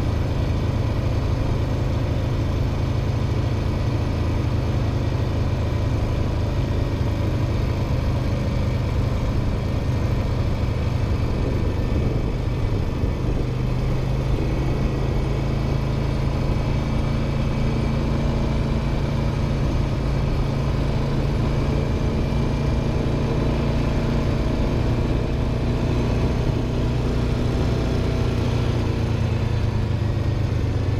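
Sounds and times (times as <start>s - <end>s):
atv engine running: 0.0s - 30.9s.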